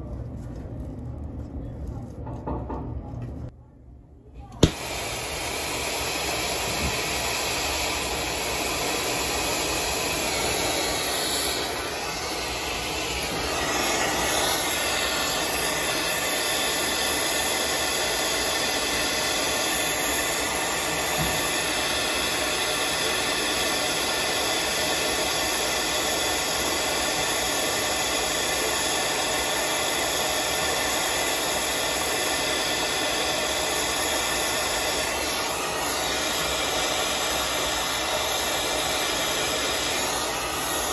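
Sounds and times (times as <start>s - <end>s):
brazing torch flame hissing: 4.6s - 40.9s.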